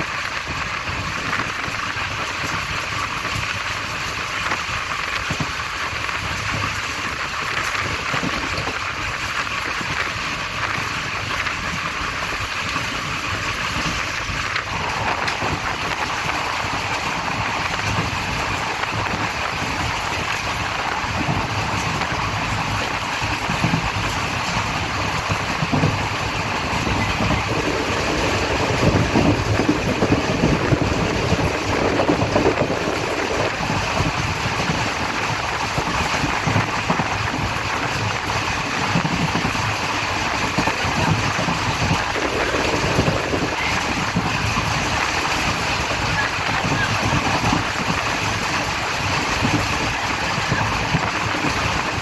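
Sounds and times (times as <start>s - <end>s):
train coach rumbling and rattling: 0.0s - 52.0s
wheels knocking on track: 0.0s - 52.0s.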